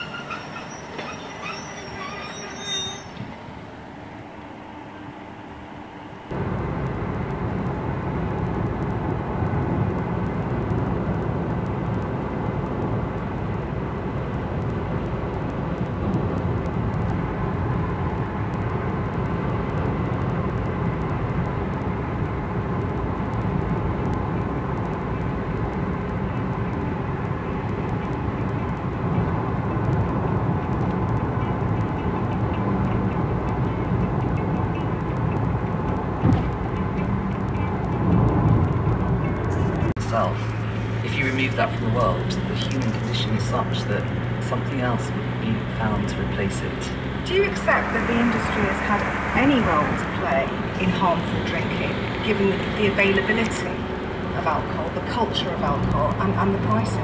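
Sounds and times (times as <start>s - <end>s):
road and engine noise in car: 0.0s - 57.0s.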